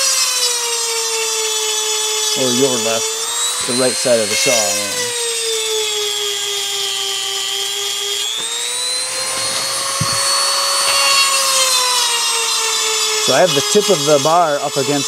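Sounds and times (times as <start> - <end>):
rotary sharpener whining: 0.0 - 15.0.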